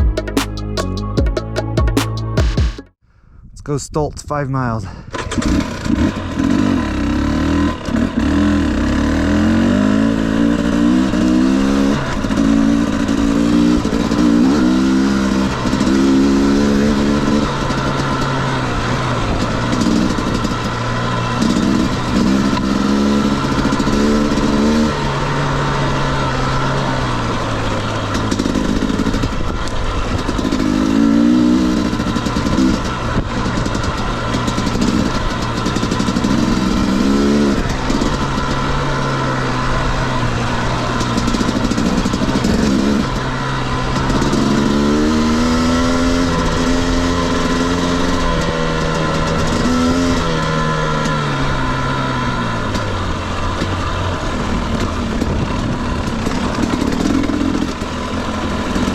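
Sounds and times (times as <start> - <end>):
dirt bike engine revving: 5.1 - 58.9.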